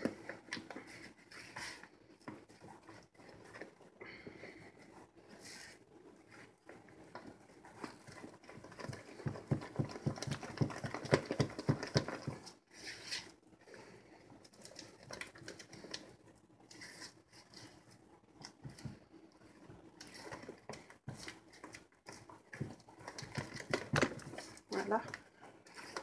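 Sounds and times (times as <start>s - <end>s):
spatula stirring batter in bowl: 4.4s - 26.0s.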